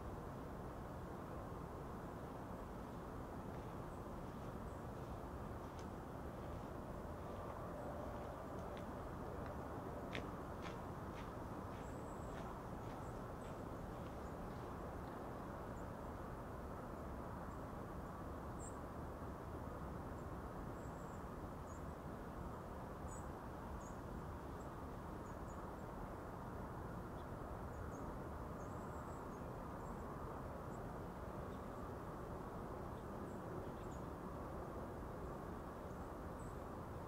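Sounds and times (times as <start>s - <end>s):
steady low hiss: 0.0s - 37.0s.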